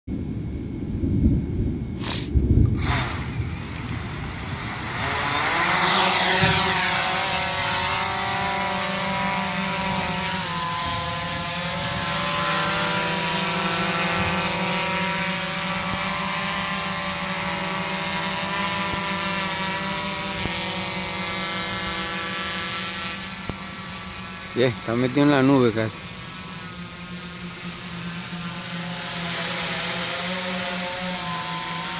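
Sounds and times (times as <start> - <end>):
quadcopter buzzing hum: 0.1 - 31.9.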